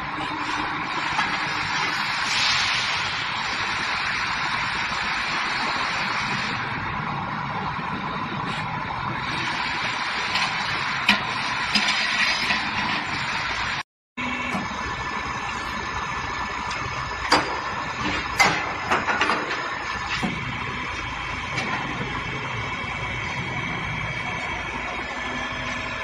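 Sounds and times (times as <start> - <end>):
tire changer mechanical hum: 0.0 - 26.0.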